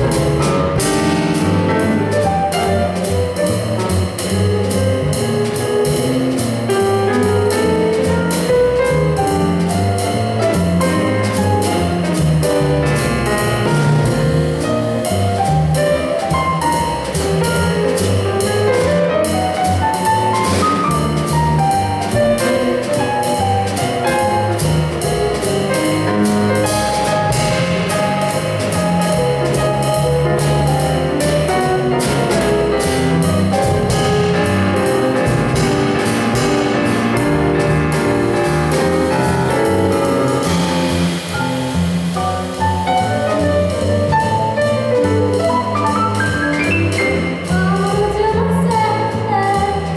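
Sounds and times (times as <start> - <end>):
piano: 0.0 - 49.9
plucked double bass: 0.0 - 49.9.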